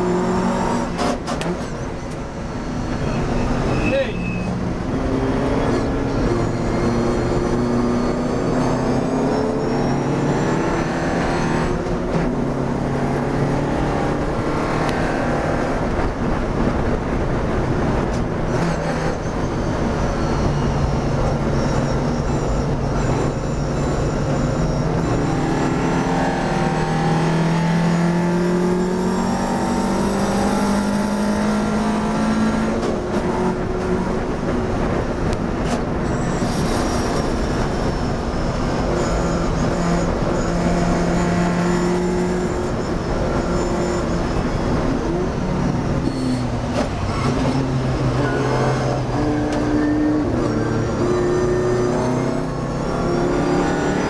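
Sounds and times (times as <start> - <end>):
racing car engine accelerating: 0.0 - 1.7, 4.5 - 54.0
wind and road noise: 0.0 - 54.0.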